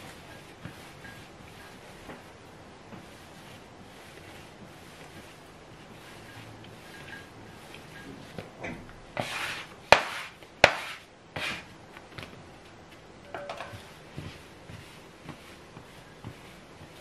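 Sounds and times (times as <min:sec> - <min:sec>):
dough kneaded on wooden table: 0:00.0 - 0:17.0.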